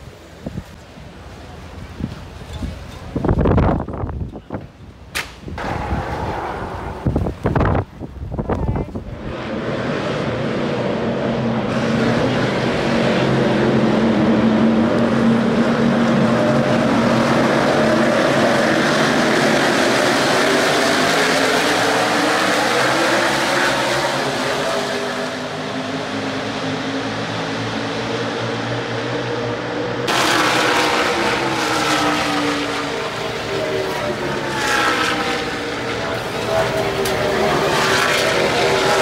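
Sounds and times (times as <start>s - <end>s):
race car engines passing: 5.5s - 39.0s.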